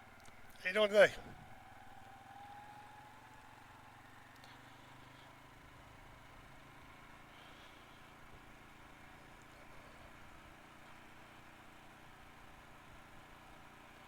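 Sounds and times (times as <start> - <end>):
faint atv engine running: 0.0 - 14.0.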